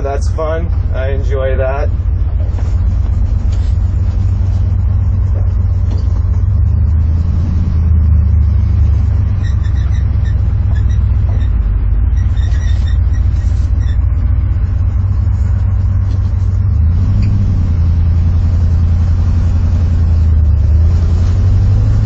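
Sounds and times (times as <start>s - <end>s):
truck engine rumble inside cab: 0.0s - 22.0s.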